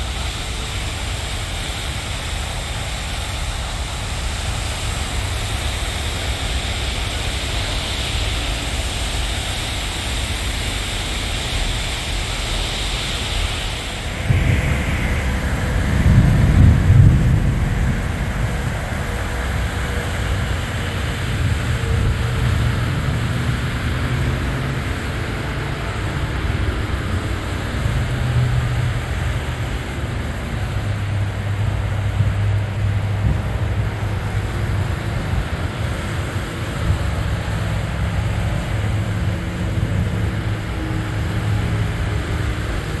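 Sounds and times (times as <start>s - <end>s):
passing cars and trucks: 0.0s - 43.0s
tyres hissing through water: 0.0s - 43.0s.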